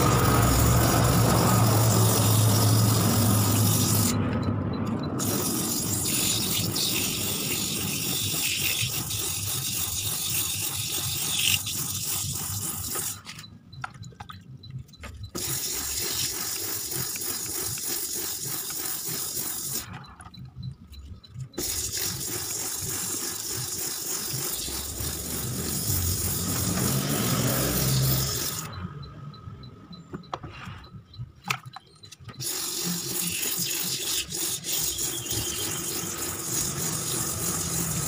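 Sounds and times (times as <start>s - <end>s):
sandpaper scraping spinning clutch bell: 0.0s - 13.9s, 14.8s - 28.8s, 31.6s - 38.0s.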